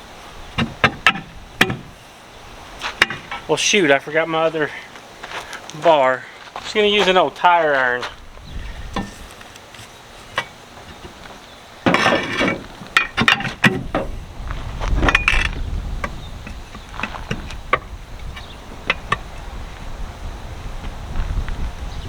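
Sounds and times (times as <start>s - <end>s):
tire iron scraping clatter: 0.5s - 20.0s.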